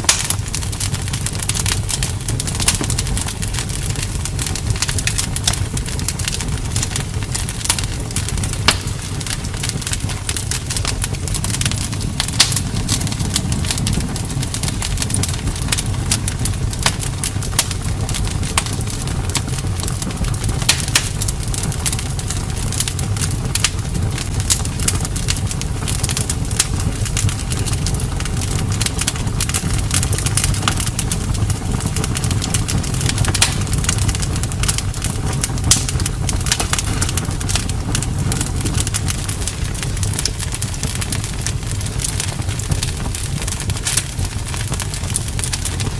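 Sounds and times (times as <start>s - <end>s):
burning wood crackling and popping: 0.0s - 45.9s
campfire flames rumbling: 0.0s - 45.9s.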